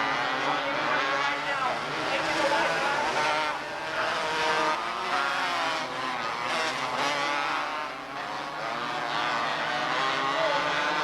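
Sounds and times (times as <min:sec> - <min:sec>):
small race car engines: 0:00.0 - 0:11.0.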